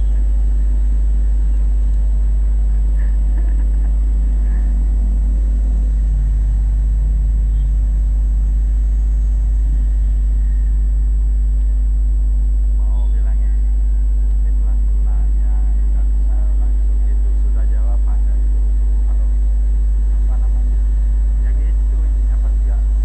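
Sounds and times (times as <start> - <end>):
city street traffic rumble: 0.0 - 23.0
thin high whine: 0.0 - 23.0.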